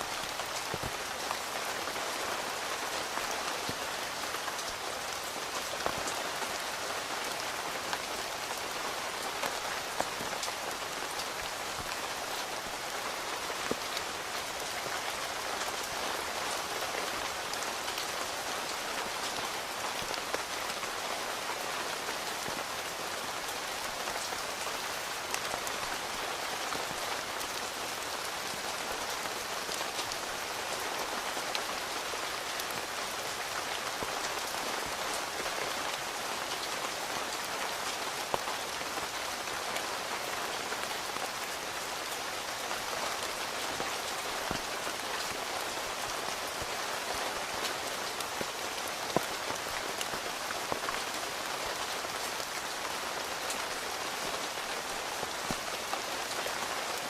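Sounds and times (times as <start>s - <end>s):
rain pattering on a tent: 0.0s - 57.0s.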